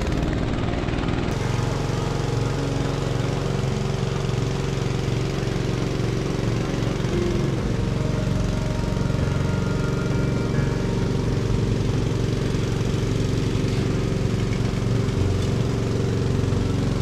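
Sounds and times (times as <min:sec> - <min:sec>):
small petrol engine running: 0:00.0 - 0:17.0.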